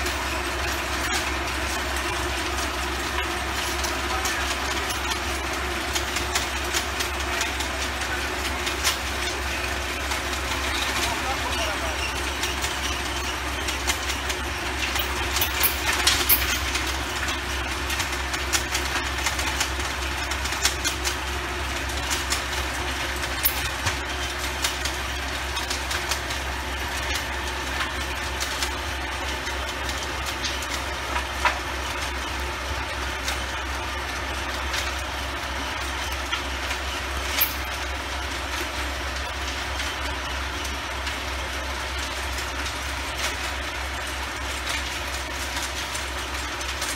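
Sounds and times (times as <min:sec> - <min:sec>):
tiller clicking and clattering: 0:00.0 - 0:46.9
tractor engine drone: 0:00.0 - 0:46.9.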